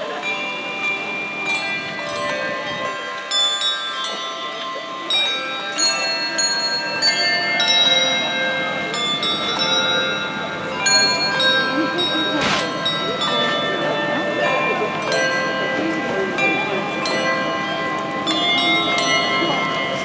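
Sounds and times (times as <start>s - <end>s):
handbell choir playing a carol: 0.0s - 20.0s.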